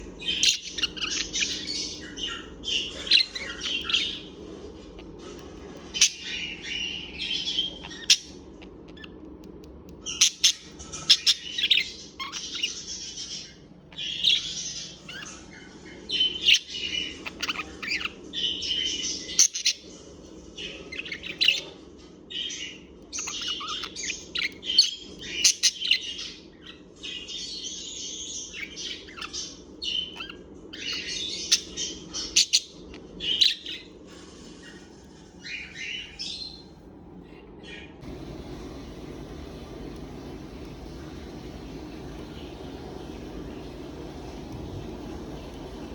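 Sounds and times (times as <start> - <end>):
birds chirping: 0.0 - 9.3, 10.0 - 20.0, 20.6 - 33.9, 34.6 - 45.9
faint low hum: 0.0 - 45.9.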